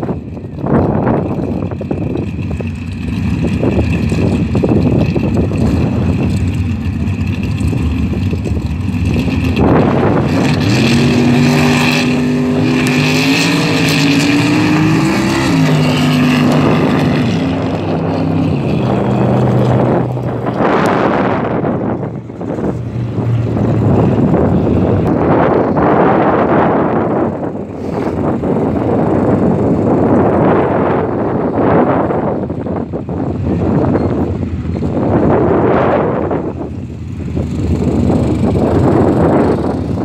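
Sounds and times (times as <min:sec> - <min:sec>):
drag racing engine revving: 0:00.0 - 0:40.0.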